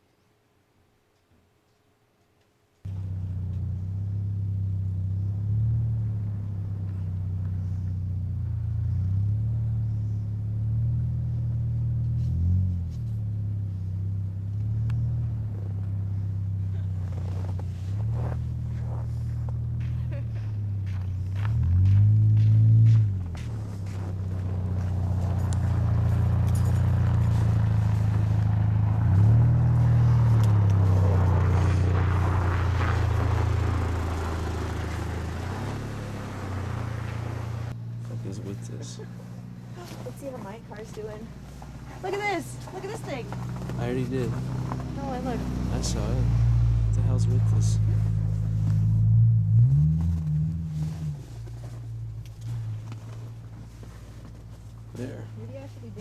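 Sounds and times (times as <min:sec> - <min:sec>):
car engine running: 0:02.9 - 0:56.0.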